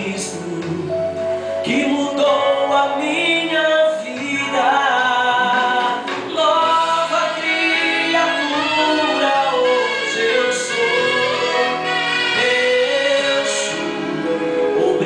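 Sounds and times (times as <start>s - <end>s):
man singing gospel through loudspeakers: 0.0s - 15.0s.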